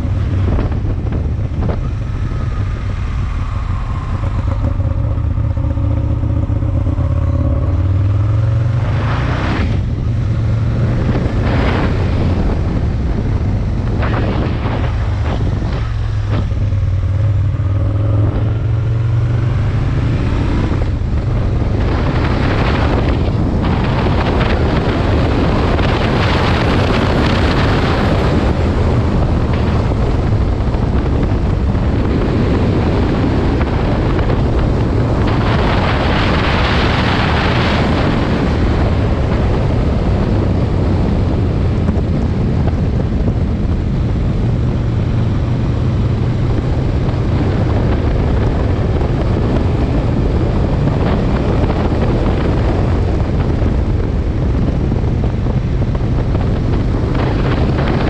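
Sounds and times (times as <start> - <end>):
motorcycle engine running: 0.0 - 8.9, 9.5 - 58.0
wind noise on microphone: 0.0 - 58.0.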